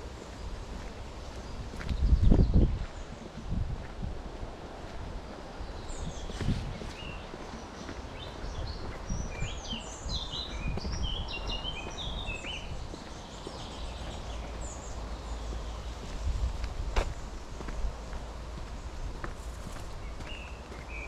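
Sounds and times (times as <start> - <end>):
steady low rumble: 0.0 - 20.4
songbird singing: 0.0 - 21.0.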